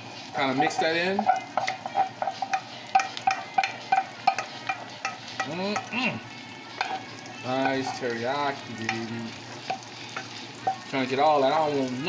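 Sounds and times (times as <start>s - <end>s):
utensil scraping and knocking in wok: 0.4s - 6.1s, 6.7s - 11.7s.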